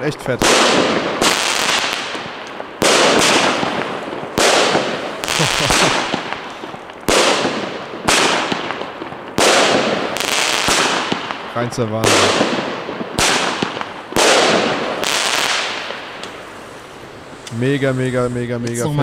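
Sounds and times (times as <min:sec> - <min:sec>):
firework crackling: 0:00.0 - 0:19.0.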